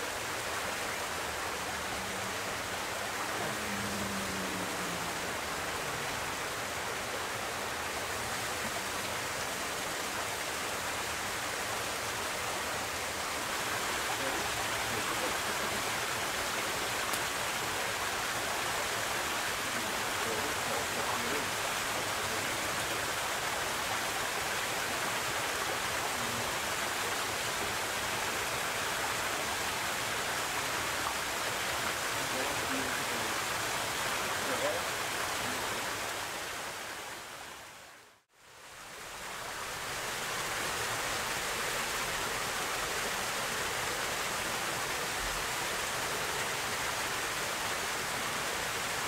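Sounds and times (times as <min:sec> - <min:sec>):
stream splashing over rocks: 0:00.0 - 0:38.0, 0:38.6 - 0:49.0.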